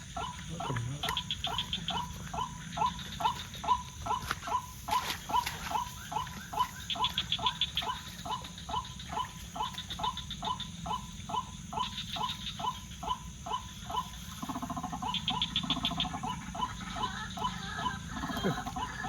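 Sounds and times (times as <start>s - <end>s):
high insect chirping: 0.0s - 19.0s.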